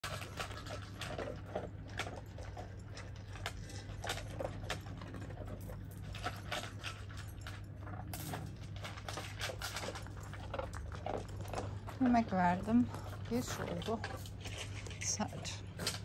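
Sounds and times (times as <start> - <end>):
dogs chewing and smacking: 0.0 - 16.0.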